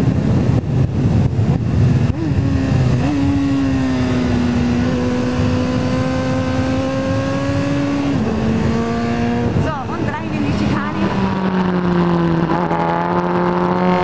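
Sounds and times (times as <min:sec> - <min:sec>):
motorcycle engine at high revs: 0:00.0 - 0:14.0
wind and road noise: 0:00.0 - 0:14.0.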